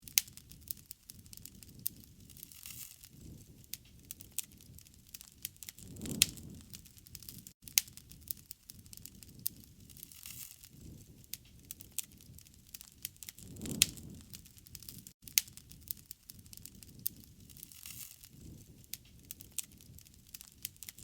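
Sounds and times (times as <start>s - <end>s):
fire popping: 0.0s - 21.0s
wood fire crackling: 0.0s - 21.0s.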